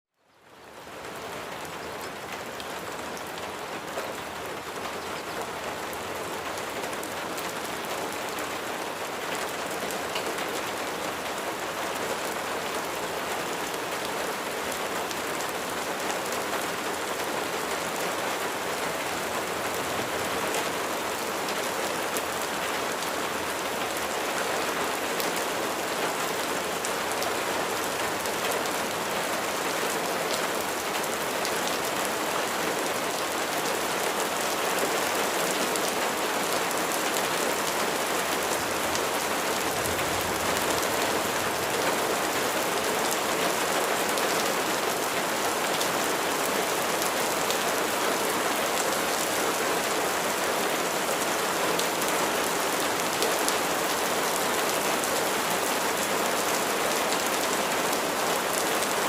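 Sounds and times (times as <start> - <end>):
rain hissing on a surface: 0.2 - 59.0.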